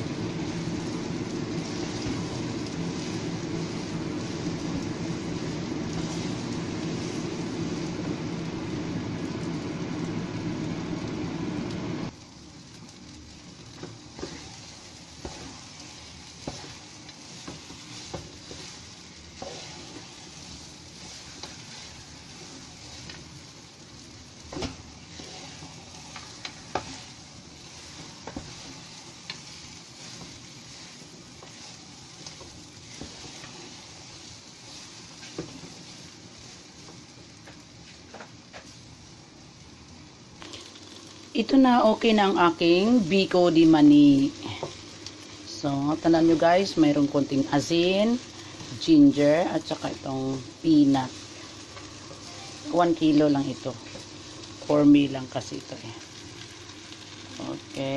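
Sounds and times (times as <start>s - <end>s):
faint sizzle: 0.0s - 57.9s.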